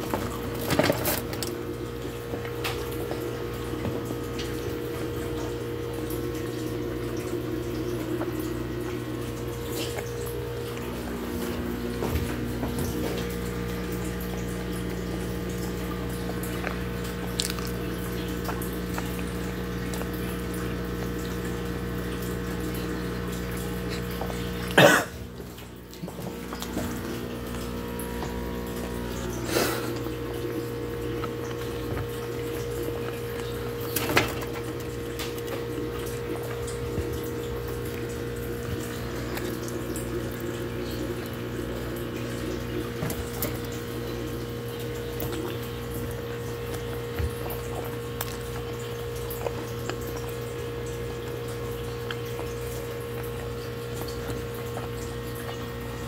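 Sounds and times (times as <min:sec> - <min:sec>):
man chewing food: 0:00.0 - 0:56.0
steady electrical hum: 0:00.0 - 0:56.0.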